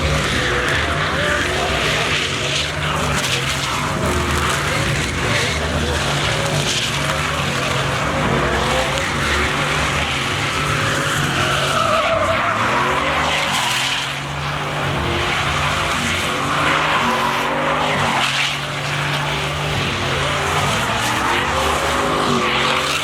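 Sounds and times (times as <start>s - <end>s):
tires screeching: 0.0s - 23.0s
truck engine at high revs: 0.0s - 23.0s.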